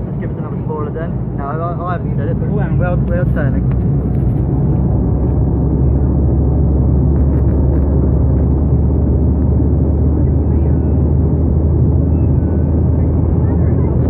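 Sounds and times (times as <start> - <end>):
airliner cabin engine drone: 0.0 - 14.0.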